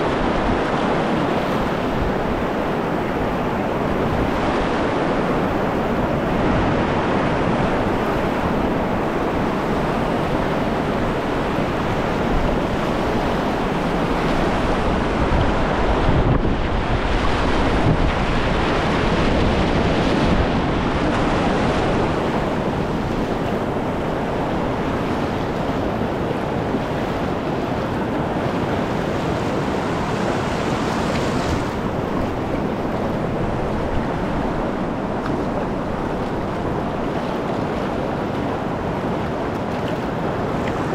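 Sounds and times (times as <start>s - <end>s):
whitewater rapids rushing: 0.0s - 40.9s
wind buffeting microphone: 0.0s - 40.9s.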